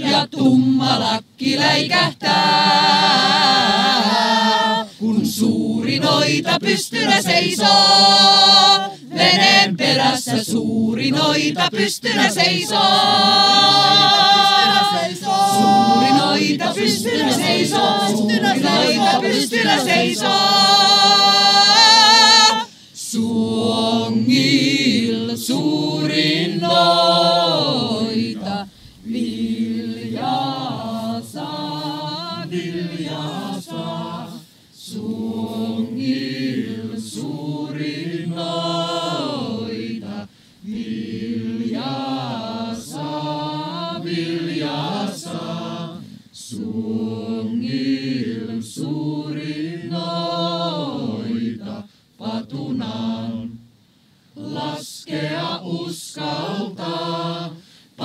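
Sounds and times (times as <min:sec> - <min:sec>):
choir singing a chant-like song: 0:00.0 - 0:53.7, 0:54.4 - 0:58.0.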